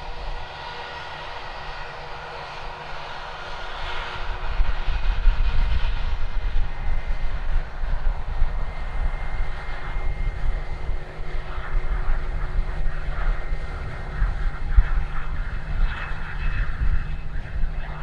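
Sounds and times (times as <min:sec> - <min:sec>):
jet engines rumbling and whining: 0:00.0 - 0:18.0.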